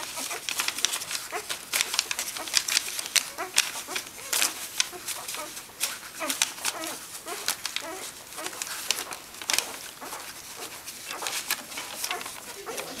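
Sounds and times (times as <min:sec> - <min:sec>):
puppies rustling on newspaper: 0:00.0 - 0:13.0
puppies squeaking and whimpering: 0:00.0 - 0:13.0.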